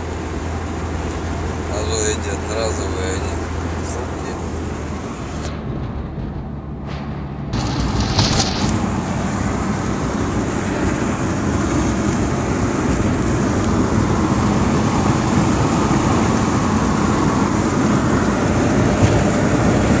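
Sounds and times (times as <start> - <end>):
road and engine noise inside car: 0.0 - 20.0.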